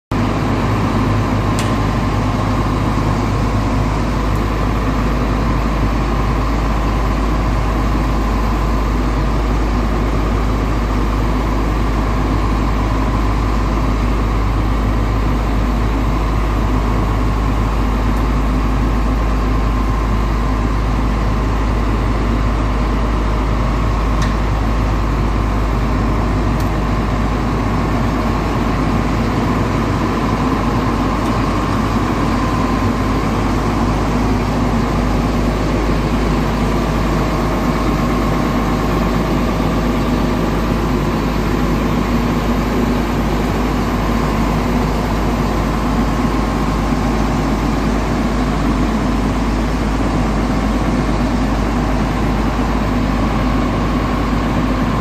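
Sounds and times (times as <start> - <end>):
drilling rig engine droning: 0.2 - 55.0.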